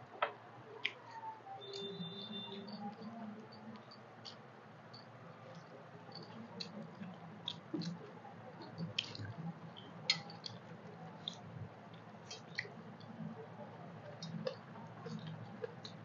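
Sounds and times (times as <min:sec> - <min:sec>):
faint chewing: 0:00.7 - 0:16.0.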